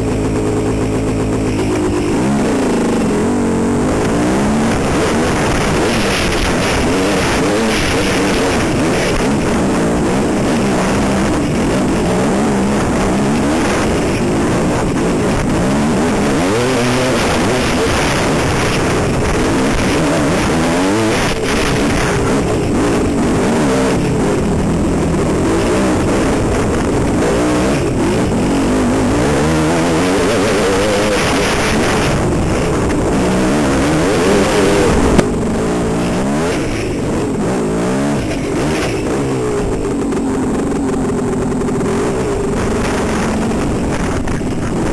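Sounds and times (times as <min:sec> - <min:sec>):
constant rush of noise: 0:00.0 - 0:44.9
dirt bike engine revving: 0:00.0 - 0:44.9.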